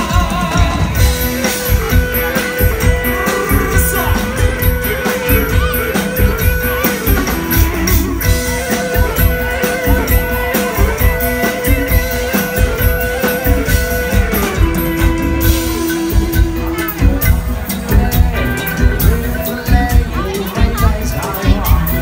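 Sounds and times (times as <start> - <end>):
electric guitar sustained notes: 0.0 - 20.2
drum kit beat: 0.0 - 22.0.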